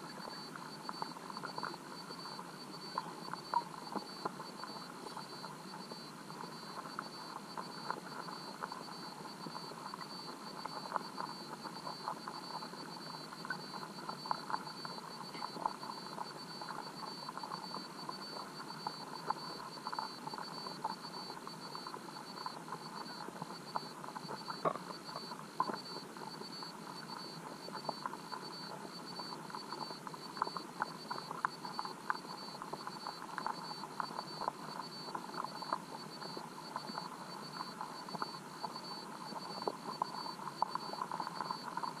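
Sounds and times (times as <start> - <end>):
small clicks and crackles: 0.0 - 42.0.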